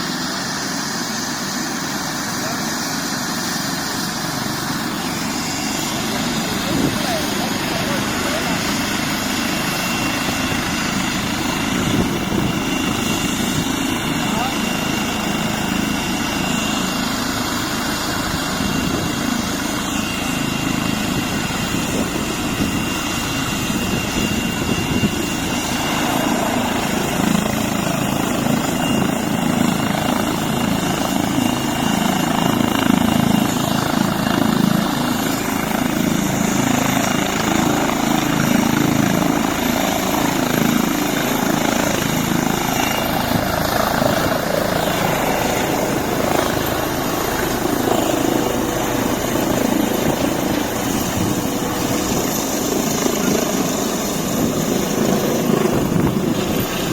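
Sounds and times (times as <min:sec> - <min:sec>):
helicopter rotor noise: 0:00.0 - 0:56.9.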